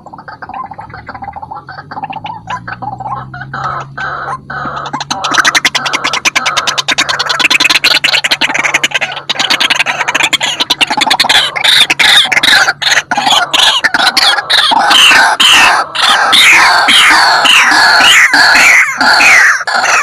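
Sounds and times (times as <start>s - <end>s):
waterhen rattling and croaking calls: 0.0s - 20.0s.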